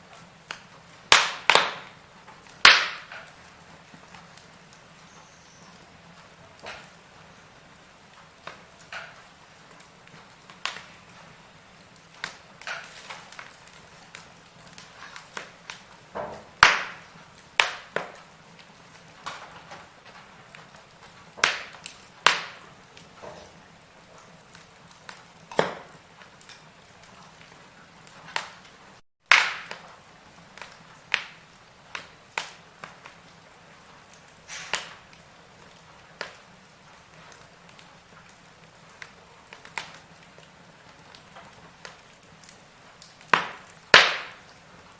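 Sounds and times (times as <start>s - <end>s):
faint steady hiss: 0.0s - 44.9s
wood fire crackling: 0.0s - 44.9s.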